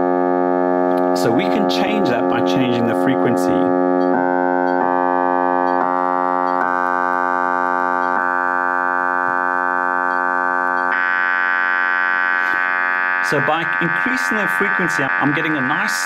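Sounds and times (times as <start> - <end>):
buzzy electronic tone: 0.0 - 16.0.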